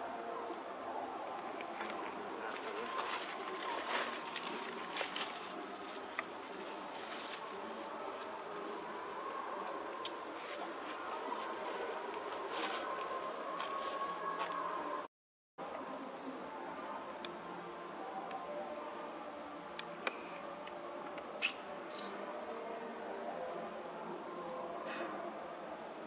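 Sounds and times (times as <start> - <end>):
insects trilling and buzzing: 0.0 - 26.0.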